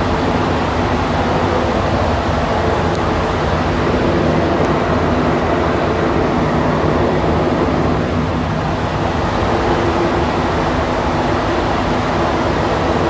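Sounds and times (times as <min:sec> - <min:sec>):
faint steady hum tones: 0:00.0 - 0:13.0
train interior rumble: 0:00.0 - 0:13.0.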